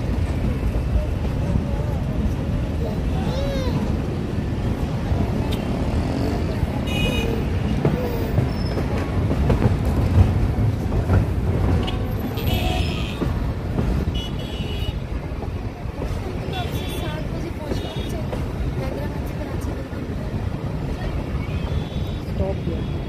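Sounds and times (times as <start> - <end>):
passenger train rumbling: 0.0 - 23.0.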